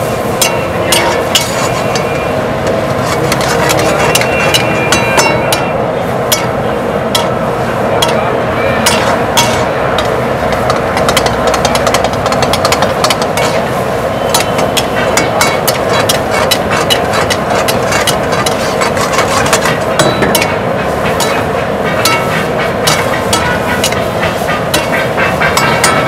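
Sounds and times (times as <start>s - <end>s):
pan sizzling: 0.0s - 8.2s, 8.8s - 26.0s
burner rushing noise: 0.0s - 26.0s
metal spatula scraping wok: 0.0s - 26.0s.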